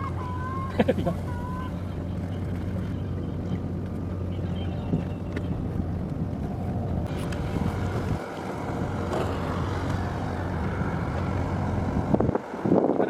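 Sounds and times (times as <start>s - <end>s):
boat engine humming: 0.0s - 13.0s
wind on microphone: 1.4s - 13.0s.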